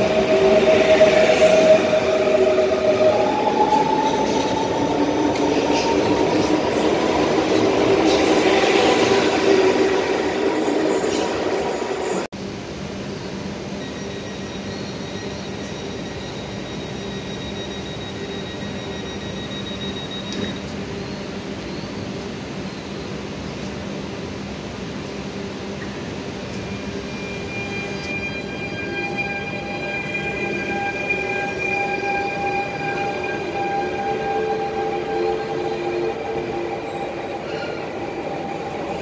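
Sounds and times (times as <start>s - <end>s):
electric train hum: 0.0s - 39.0s.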